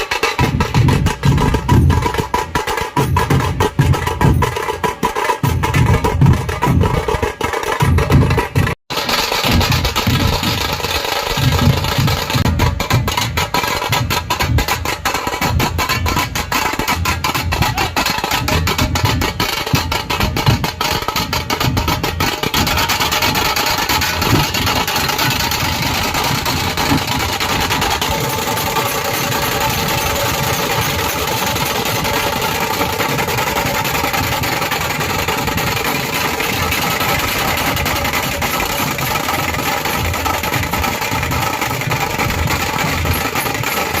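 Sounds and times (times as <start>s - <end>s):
fast sharp drum strokes: 0.0s - 44.0s
low drum beats: 0.0s - 44.0s.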